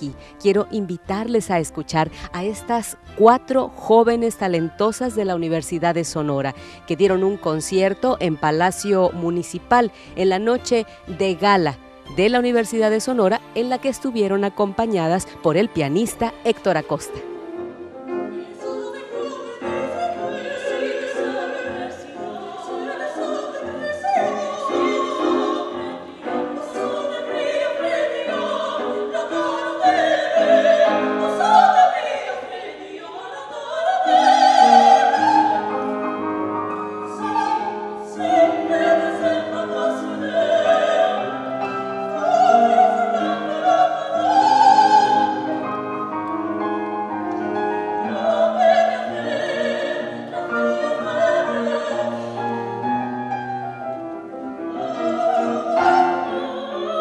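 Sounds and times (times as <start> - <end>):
women singing opera: 0.0 - 53.6, 54.2 - 57.0
piano accompaniment: 0.0 - 57.0.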